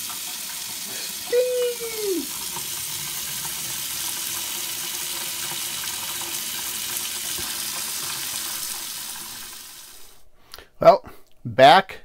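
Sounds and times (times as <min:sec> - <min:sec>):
faucet running into metal sink: 0:00.0 - 0:09.9.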